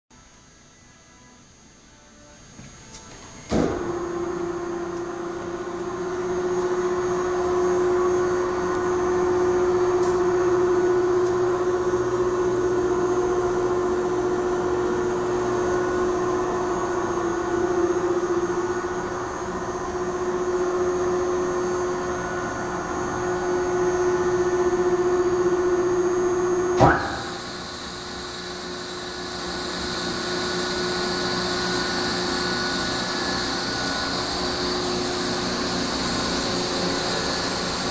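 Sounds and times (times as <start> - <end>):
mixer motor humming: 3.5 - 37.9.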